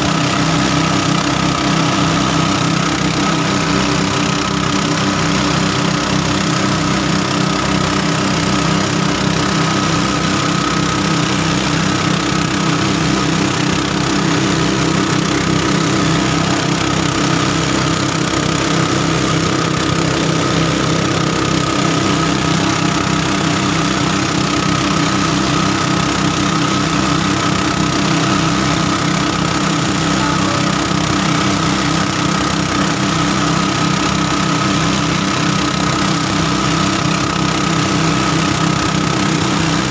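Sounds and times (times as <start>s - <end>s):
engine running with rhythmic throb: 0.0s - 39.9s.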